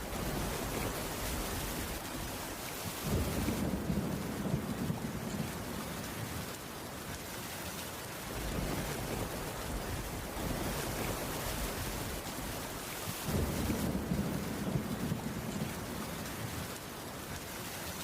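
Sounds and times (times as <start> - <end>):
heavy rain hiss: 0.0 - 18.0.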